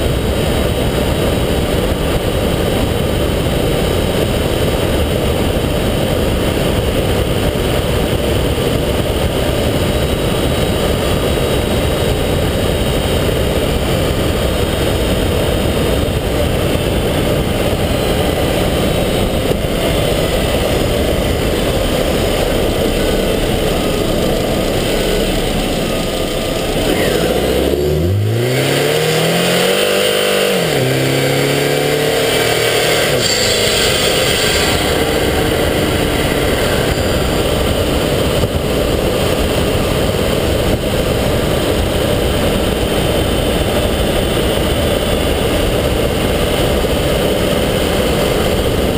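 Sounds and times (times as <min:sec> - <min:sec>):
car engine: 0:00.0 - 0:48.9
wind and road noise: 0:00.0 - 0:48.9.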